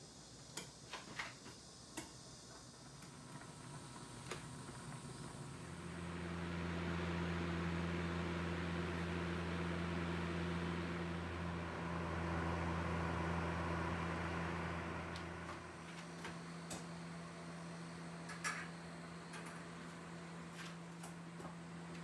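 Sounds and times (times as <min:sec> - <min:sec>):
electric fan humming: 0:00.0 - 0:22.0.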